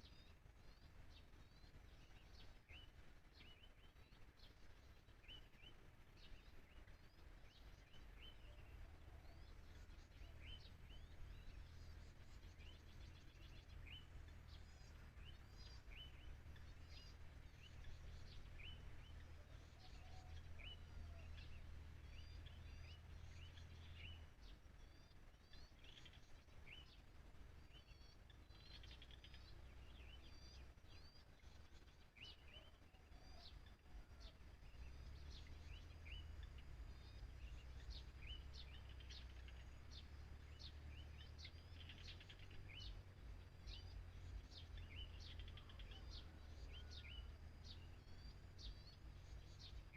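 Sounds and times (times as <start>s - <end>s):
faint small birds chirping: 0.0s - 49.9s
low rumble of wind: 0.0s - 49.9s.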